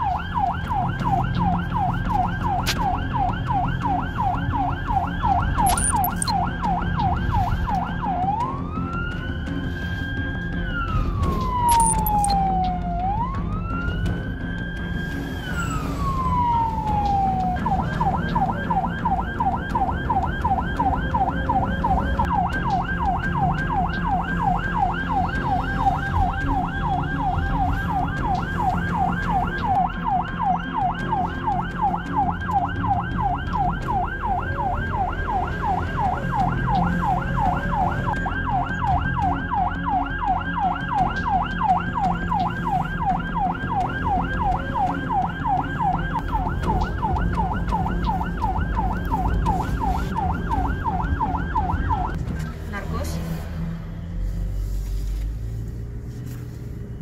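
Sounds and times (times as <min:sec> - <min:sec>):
ambulance siren wailing and yelping: 0:00.0 - 0:53.0
engine and road noise: 0:00.0 - 0:57.0.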